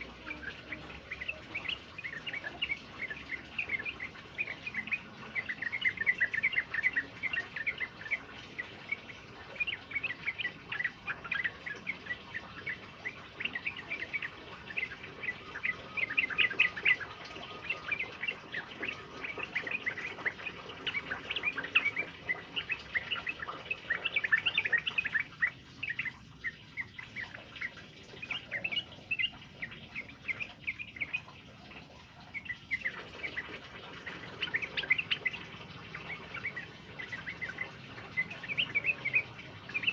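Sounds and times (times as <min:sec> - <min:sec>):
bird singing chirping phrases: 0:00.0 - 0:39.9.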